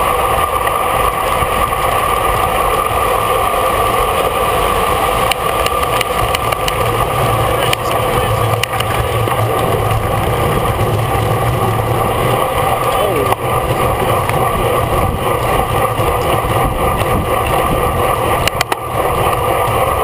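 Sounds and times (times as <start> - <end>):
bike tyre and drivetrain noise: 0.0 - 20.0
wind buffeting microphone: 0.0 - 20.0.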